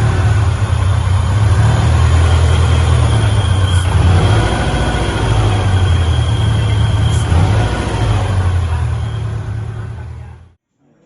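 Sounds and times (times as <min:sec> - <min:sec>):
car engine droning: 0:00.0 - 0:10.6
road noise: 0:00.0 - 0:10.6.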